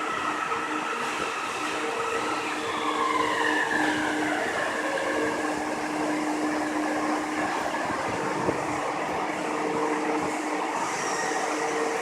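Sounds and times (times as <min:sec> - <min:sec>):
train equipment and fans humming: 0:00.0 - 0:12.0.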